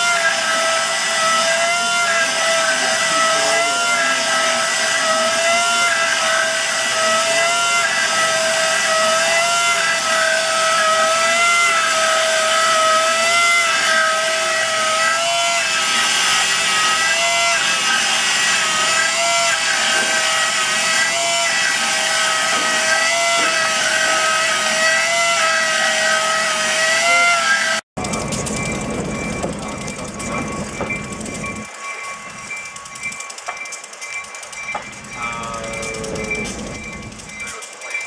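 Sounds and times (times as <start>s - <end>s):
machine whining: 0.0s - 38.0s.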